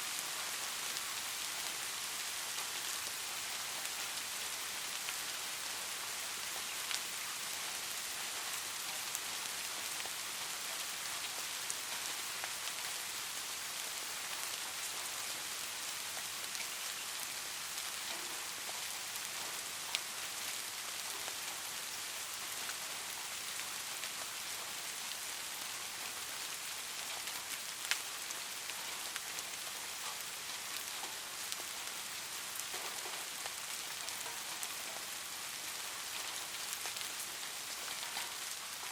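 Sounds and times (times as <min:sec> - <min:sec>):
light rain hissing: 0:00.0 - 0:38.9.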